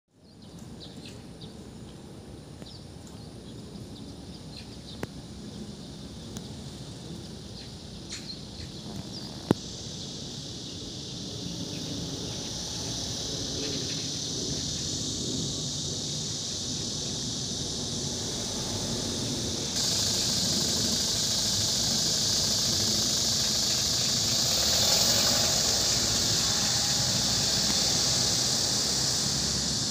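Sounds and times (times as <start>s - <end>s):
high-pitched insect drone: 5.6s - 29.9s.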